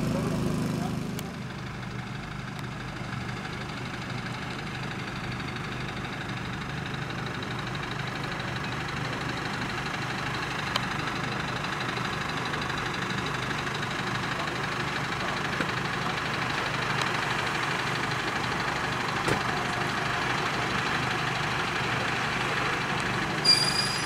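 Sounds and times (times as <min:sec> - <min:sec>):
fire engine motor idling: 0:00.0 - 0:24.0.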